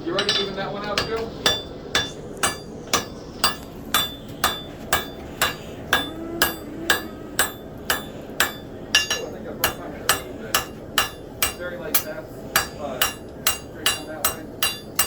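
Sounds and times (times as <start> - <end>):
hammer striking steel on anvil: 0.1 - 15.0.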